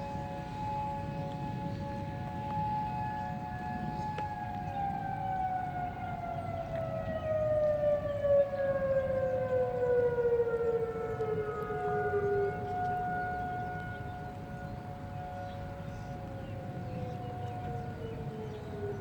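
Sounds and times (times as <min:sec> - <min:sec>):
warning sirens: 0:00.0 - 0:19.0.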